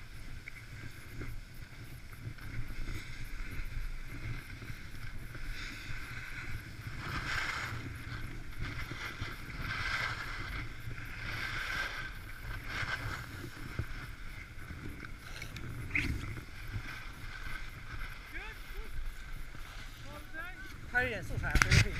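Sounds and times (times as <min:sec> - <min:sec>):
skis scraping over snow: 0:00.0 - 0:21.9
wind rumble on microphone: 0:00.0 - 0:21.9.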